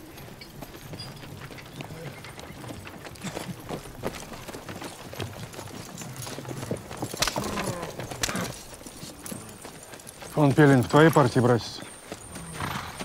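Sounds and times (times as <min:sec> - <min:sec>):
horse hooves clopping on dirt: 0:00.0 - 0:13.0.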